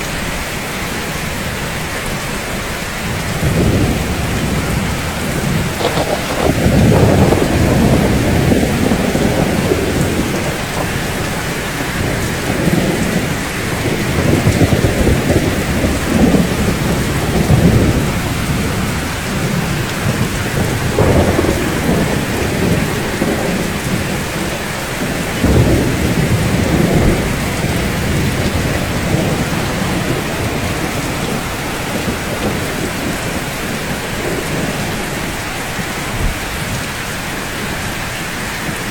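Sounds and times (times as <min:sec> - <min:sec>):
rain on a roof: 0:00.0 - 0:38.9
rolling thunder: 0:03.1 - 0:37.8.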